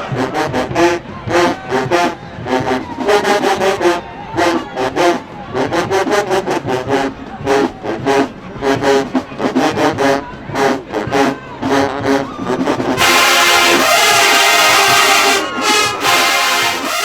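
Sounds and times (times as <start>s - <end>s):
drumline hits: 0.0s - 17.0s
marching band brass chords: 0.0s - 17.0s.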